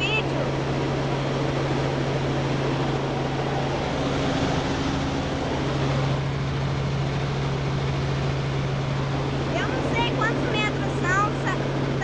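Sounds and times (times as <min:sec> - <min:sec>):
helicopter engine and rotors drone: 0:00.0 - 0:12.0.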